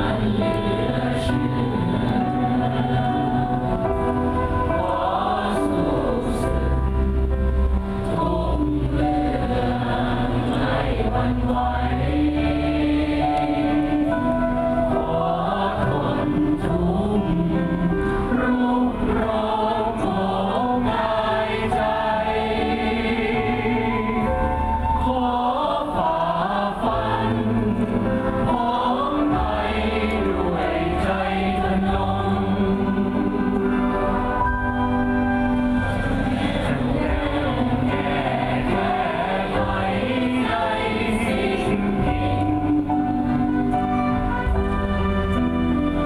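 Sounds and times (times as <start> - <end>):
mixed choir singing: 0.0 - 46.0.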